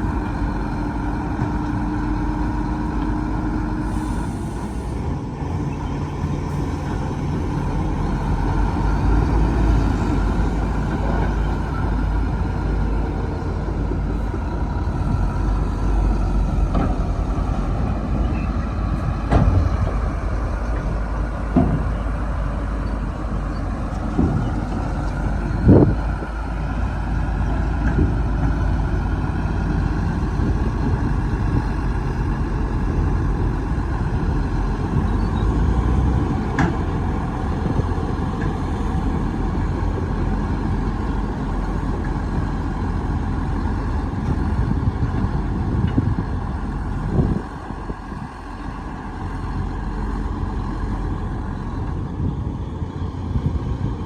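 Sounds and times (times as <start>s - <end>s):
heavy diesel engines rumbling: 0.0s - 54.0s.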